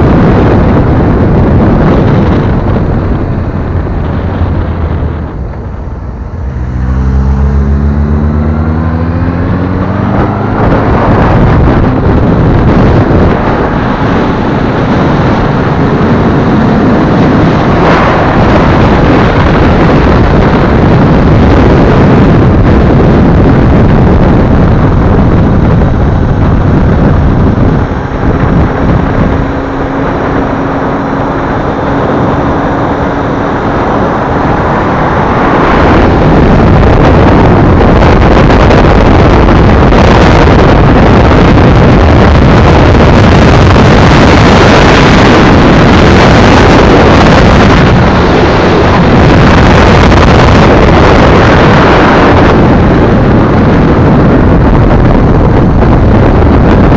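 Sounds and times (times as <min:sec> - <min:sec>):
motorcycle engine accelerating: 0:00.0 - 0:56.9
wind noise on microphone: 0:00.0 - 0:56.9.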